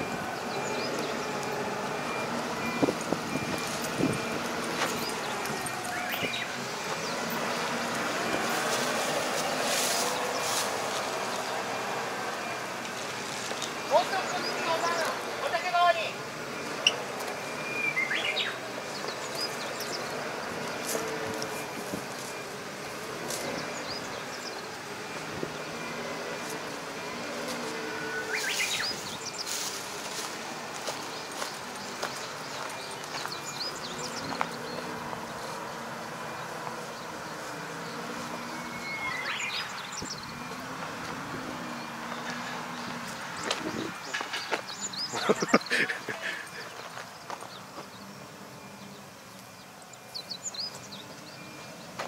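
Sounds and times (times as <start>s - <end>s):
birds chirping: 0.0s - 52.0s
tractor diesel engine running: 0.0s - 52.0s.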